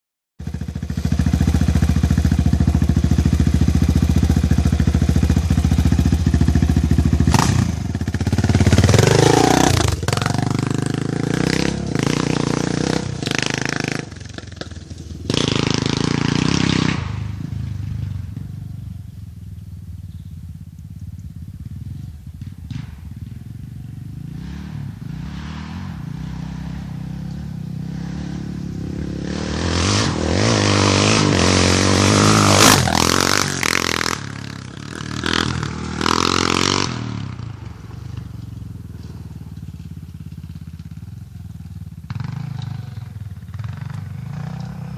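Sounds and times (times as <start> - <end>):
motorcycle engine revving: 0.4 - 44.9.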